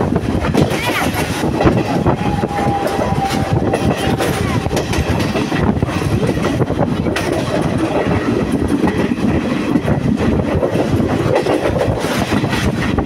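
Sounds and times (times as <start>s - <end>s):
train knocks: 0.0s - 13.0s
train wheels rumbling on rail: 0.0s - 13.0s.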